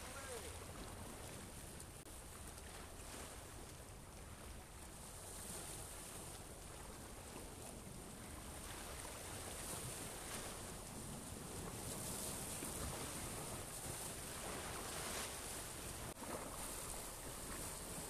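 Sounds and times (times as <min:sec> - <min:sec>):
waves washing: 0:00.0 - 0:18.0
wind on microphone: 0:00.0 - 0:18.0.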